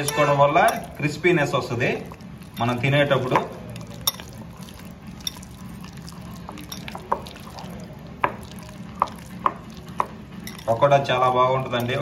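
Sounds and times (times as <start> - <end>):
hand squelching wet mixture: 0.0 - 12.0.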